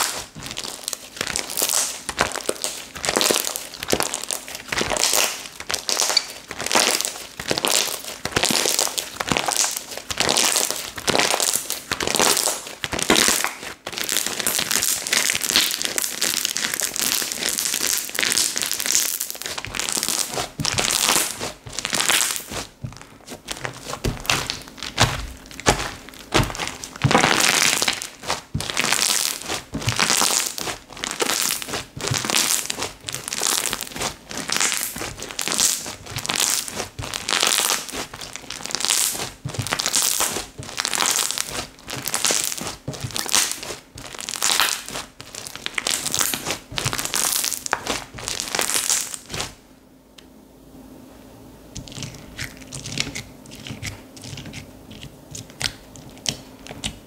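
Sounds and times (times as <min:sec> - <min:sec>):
slime squished by hand: 0:00.0 - 0:49.6.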